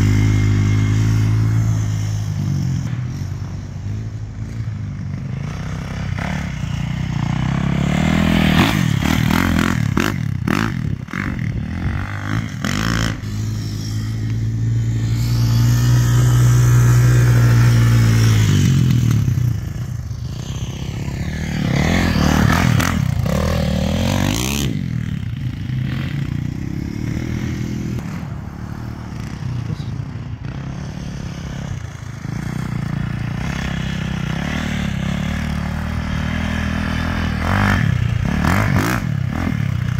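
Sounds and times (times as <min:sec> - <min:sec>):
dirt bike and quad engines revving: 0:00.0 - 0:39.9.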